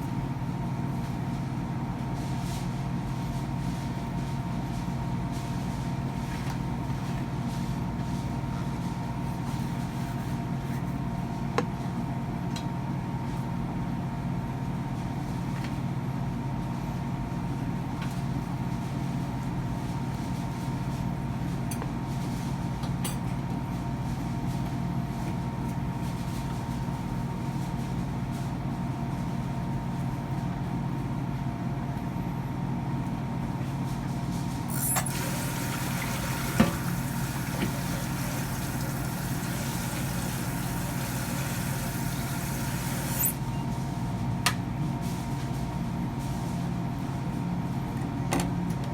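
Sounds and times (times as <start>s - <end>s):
steady mechanical hum: 0.0s - 48.9s.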